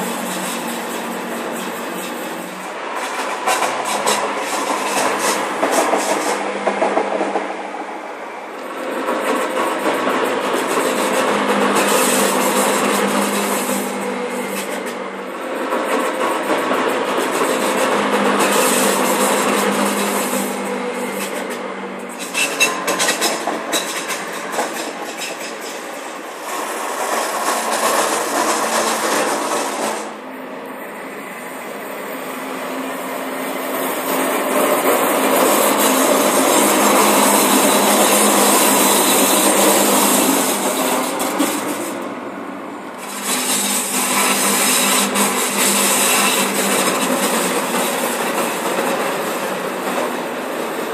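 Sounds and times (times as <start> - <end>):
train wheels squealing on rails: 0.0 - 7.5, 8.7 - 42.1, 42.9 - 50.9.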